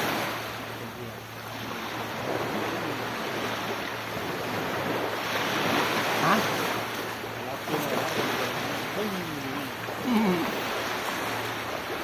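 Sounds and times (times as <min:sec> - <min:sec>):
waves washing onto a beach: 0:00.0 - 0:12.0.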